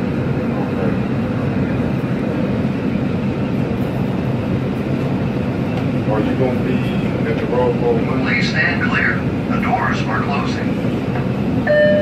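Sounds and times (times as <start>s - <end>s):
subway car rumbling: 0.0s - 12.0s.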